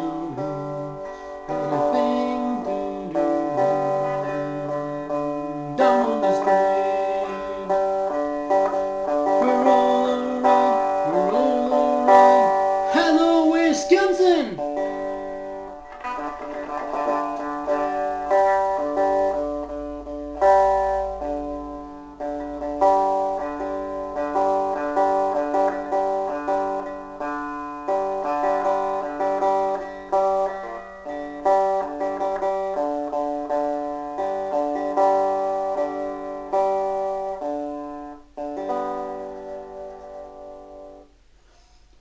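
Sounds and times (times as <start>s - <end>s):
electric guitar strumming chords: 0.0s - 41.4s.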